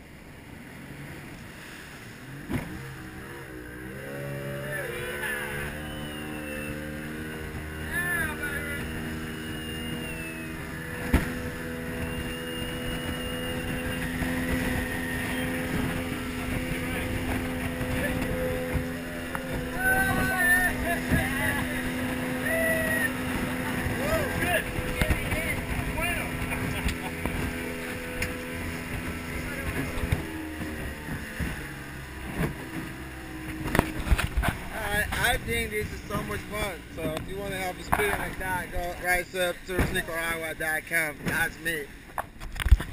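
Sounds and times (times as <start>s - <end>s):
boat motor running: 0.0s - 42.9s
water and wind noise: 0.0s - 42.9s.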